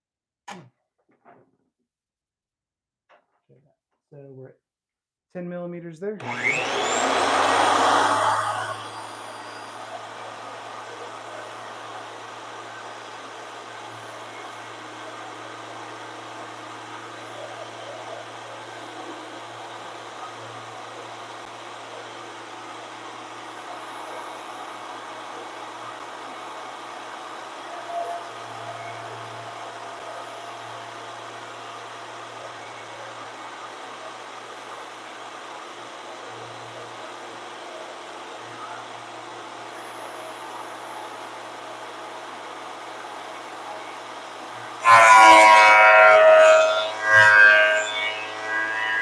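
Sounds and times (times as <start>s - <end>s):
thickness planer motor hum: 6.2s - 49.0s.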